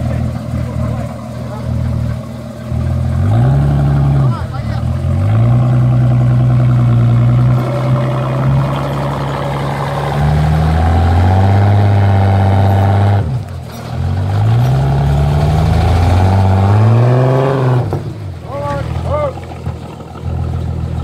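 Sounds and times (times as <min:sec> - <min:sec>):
engines revving under load: 0:00.0 - 0:21.0.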